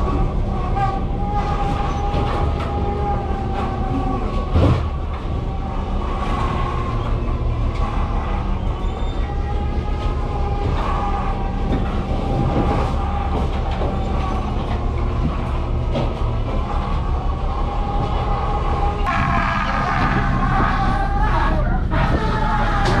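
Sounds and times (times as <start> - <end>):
constant machinery whine: 0.0 - 23.0
engine low rumble: 0.0 - 23.0.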